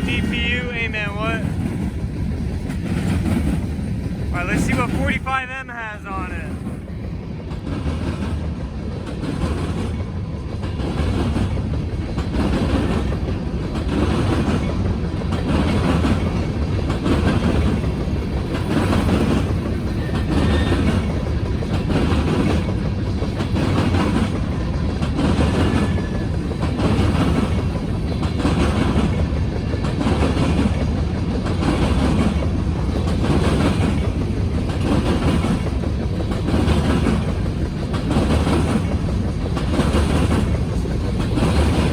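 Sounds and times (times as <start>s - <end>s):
train wheels clacking over rail joints: 0.0s - 5.3s, 6.4s - 41.9s
low rumble of train: 0.0s - 41.9s.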